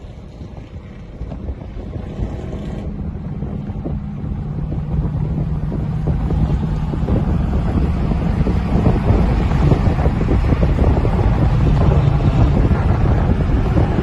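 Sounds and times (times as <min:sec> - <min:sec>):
car exhaust rumble: 0:00.0 - 0:14.0
wind buffeting microphone: 0:00.0 - 0:14.0.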